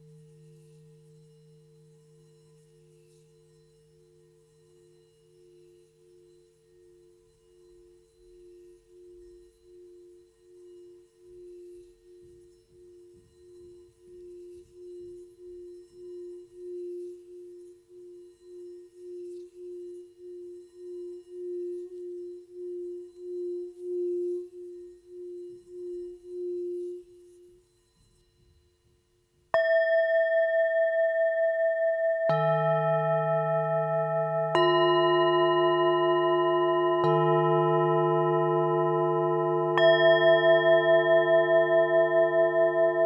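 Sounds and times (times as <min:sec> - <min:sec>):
singing bowl ringing: 0:04.7 - 0:27.5, 0:29.6 - 0:43.0.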